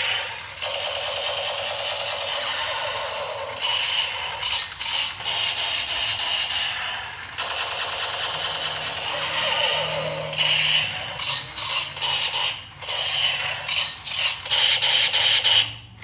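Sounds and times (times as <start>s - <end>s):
toy gun electronic firing buzz: 0.0s - 16.0s.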